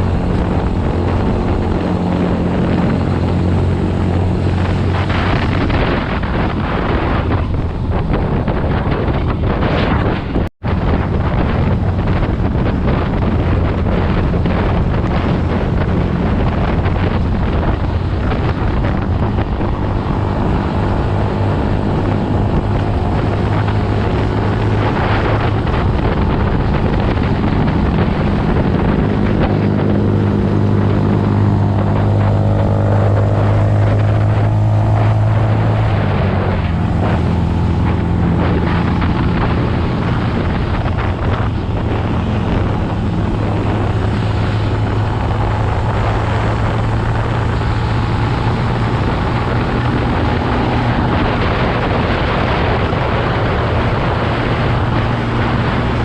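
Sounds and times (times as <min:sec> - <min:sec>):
dirt bike engine running: 0:00.0 - 0:56.0
wind buffeting microphone: 0:00.0 - 0:56.0.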